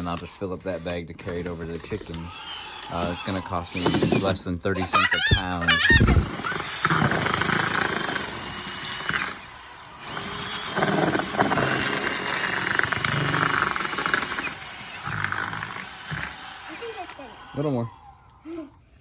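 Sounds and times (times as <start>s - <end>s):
handheld power tool running: 0.0s - 17.8s.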